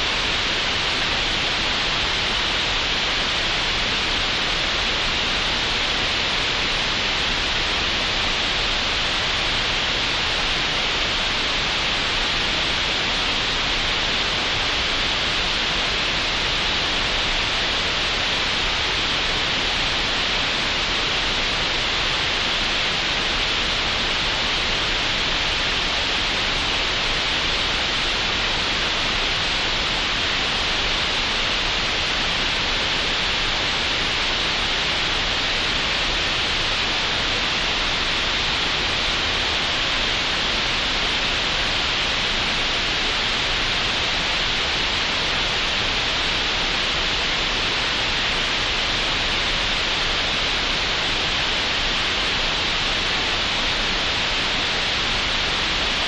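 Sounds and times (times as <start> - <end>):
synthetic green noise hiss: 0.0 - 56.0.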